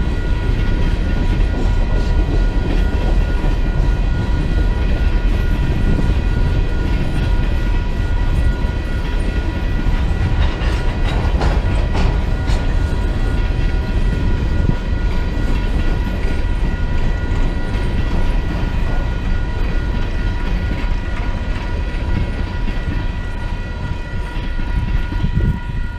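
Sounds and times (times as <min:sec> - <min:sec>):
high ringing tones: 0:00.0 - 0:25.9
train rumbling on rails: 0:00.0 - 0:25.9.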